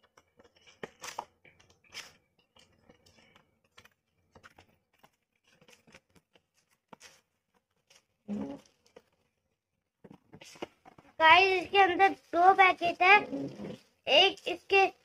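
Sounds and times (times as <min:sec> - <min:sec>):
scrapes taps and crinkles: 0:00.0 - 0:15.0.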